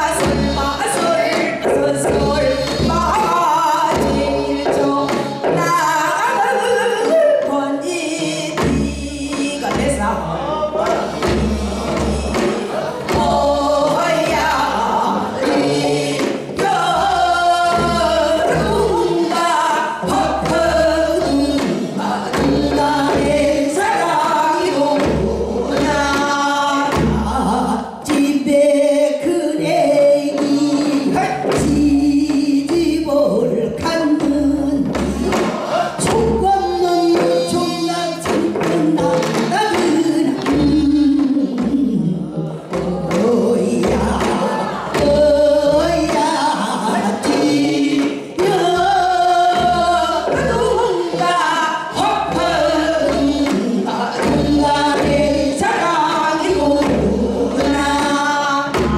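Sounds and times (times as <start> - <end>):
women singing into microphones: 0.0 - 58.9.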